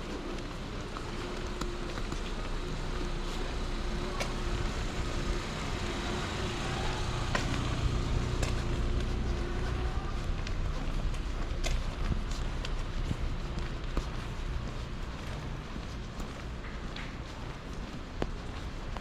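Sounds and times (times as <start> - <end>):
rain on a wet street: 0.0 - 19.0
vehicle rumble: 0.0 - 19.0.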